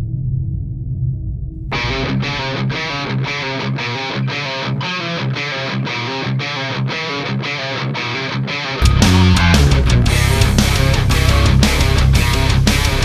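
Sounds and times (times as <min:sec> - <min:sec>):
rock music with electric guitar: 0:01.7 - 0:13.0.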